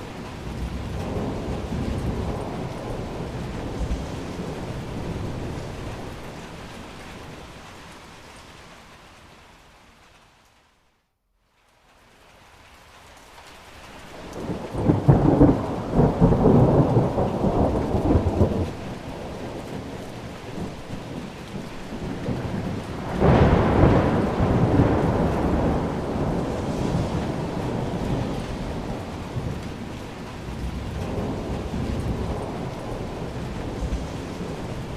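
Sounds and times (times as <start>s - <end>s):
thunder rumbling: 0.0s - 8.2s, 14.1s - 34.9s
steady rain: 0.0s - 34.9s.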